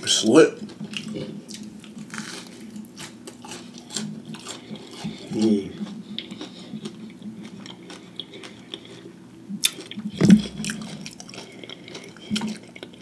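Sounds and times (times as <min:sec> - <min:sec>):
wet chewing with crunches: 0:00.6 - 0:13.0.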